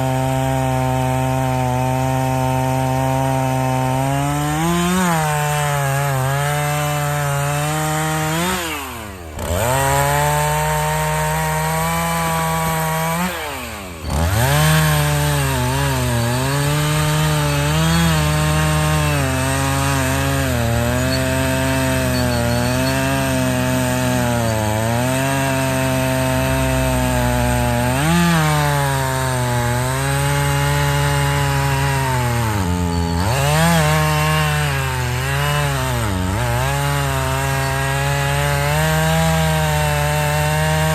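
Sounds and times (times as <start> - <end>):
chainsaw cutting logs: 0.0 - 40.9.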